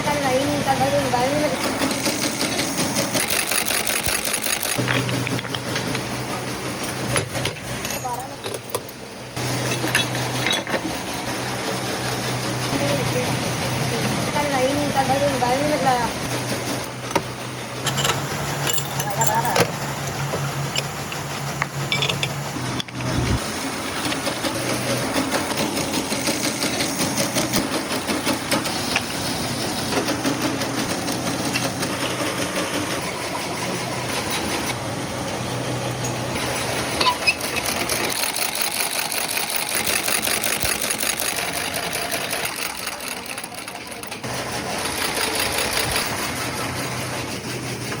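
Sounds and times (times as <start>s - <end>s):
factory machines clattering: 0.0s - 48.0s.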